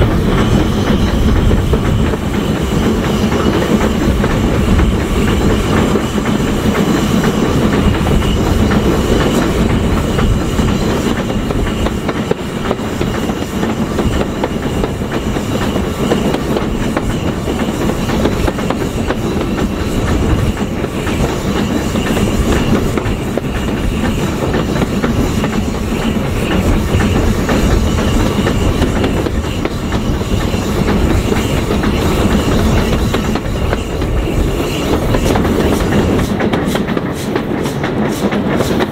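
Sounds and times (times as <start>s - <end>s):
train running: 0.0s - 38.9s.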